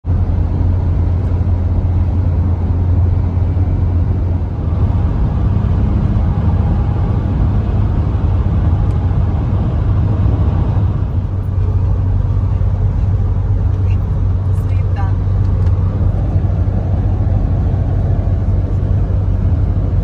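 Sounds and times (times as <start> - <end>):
car road noise rumble: 0.0 - 20.0.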